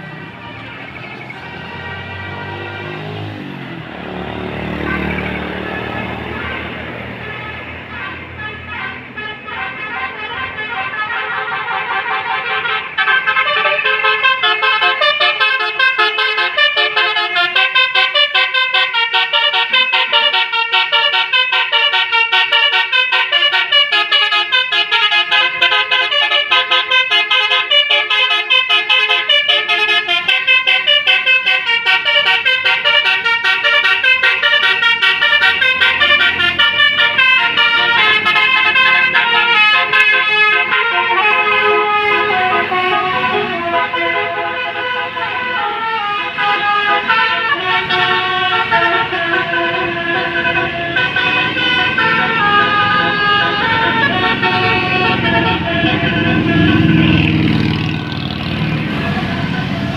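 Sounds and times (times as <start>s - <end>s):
bus multi-tone horn tune: 0.0s - 59.9s.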